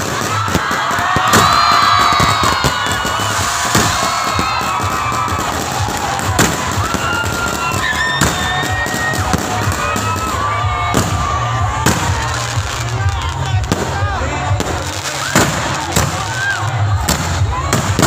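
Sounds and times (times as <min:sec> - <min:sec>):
fireworks bangs: 0:00.0 - 0:18.0
music: 0:00.0 - 0:18.0.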